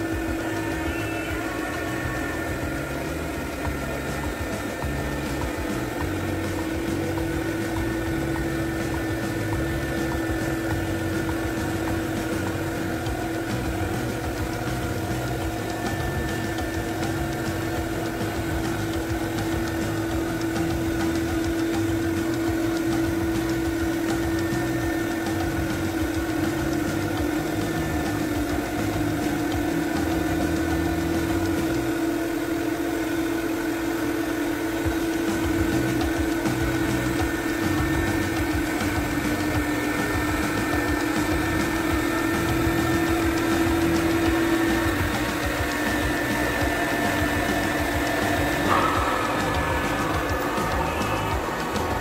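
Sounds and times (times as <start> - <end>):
carpet extractor motor drone: 0.0 - 52.0.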